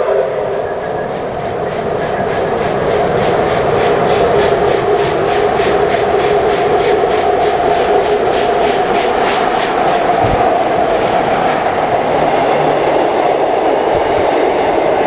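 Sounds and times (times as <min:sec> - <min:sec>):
steady droning tone: 0:00.0 - 0:13.3
steam locomotive chuffing: 0:00.0 - 0:15.0.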